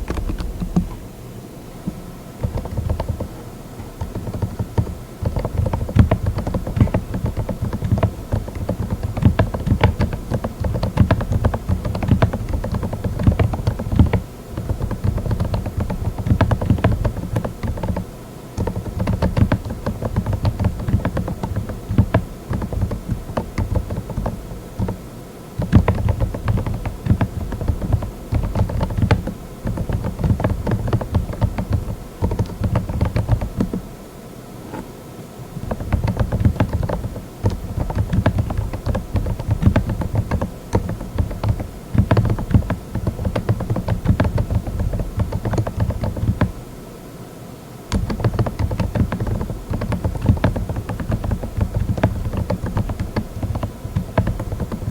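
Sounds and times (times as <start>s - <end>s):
muted keyboard typing: 0.0s - 1.0s, 1.9s - 33.9s, 35.6s - 46.6s, 47.9s - 54.9s.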